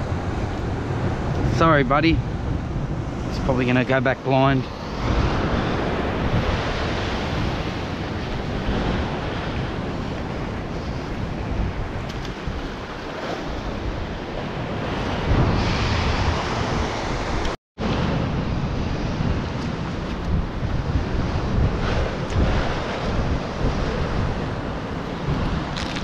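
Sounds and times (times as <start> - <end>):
waves on rocky shore: 0.0 - 26.0
wind buffeting microphone: 0.0 - 26.0.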